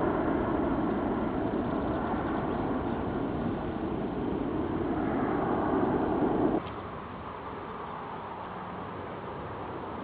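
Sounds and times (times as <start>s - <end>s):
jet airliner flying overhead: 0.0s - 10.0s.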